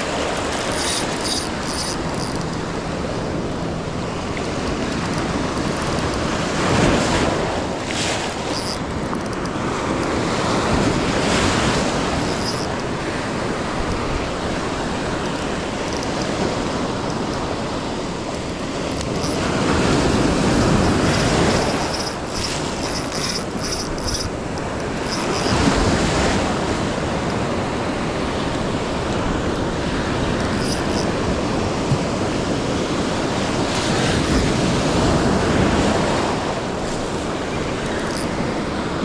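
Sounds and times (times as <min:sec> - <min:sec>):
ocean surf breaking: 0:00.0 - 0:39.0
wind buffeting microphone: 0:00.0 - 0:39.0.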